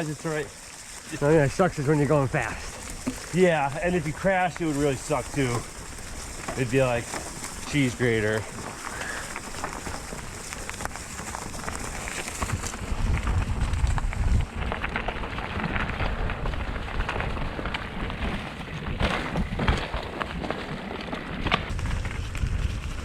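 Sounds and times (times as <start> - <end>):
bike tyres clattering over ground: 0.0 - 23.0
wind rumbling on microphone: 0.0 - 23.0.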